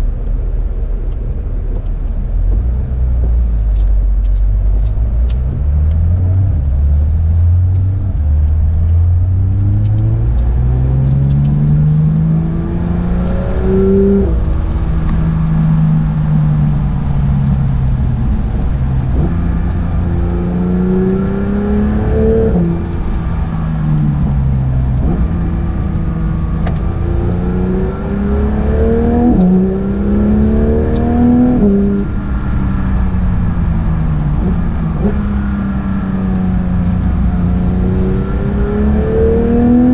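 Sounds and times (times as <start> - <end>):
car engine revving through gear shifts: 0.0 - 39.9.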